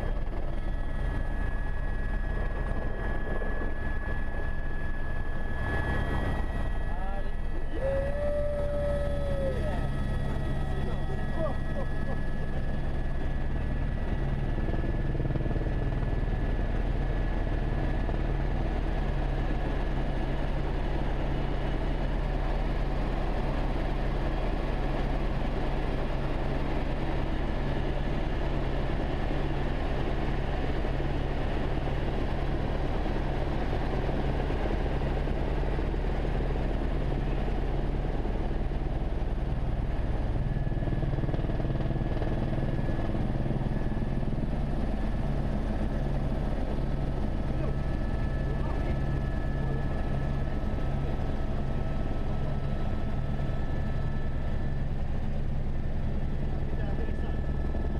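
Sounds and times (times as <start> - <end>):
helicopter rotor and engine drone: 0.0 - 57.9
high turbine whine: 0.0 - 57.9.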